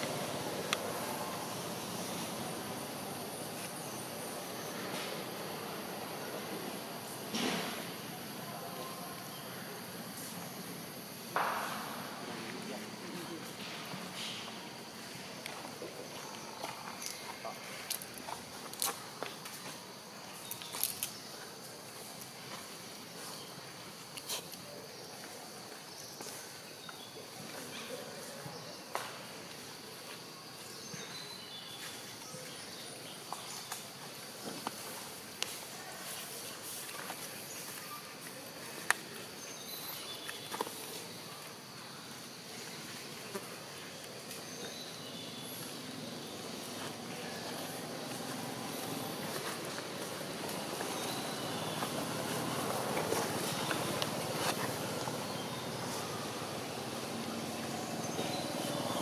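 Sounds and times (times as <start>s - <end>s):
high insect hiss: 0.0s - 59.0s.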